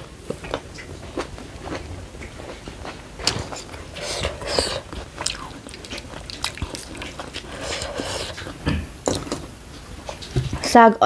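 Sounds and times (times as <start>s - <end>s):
person chewing with wet smacks: 0.2s - 10.6s.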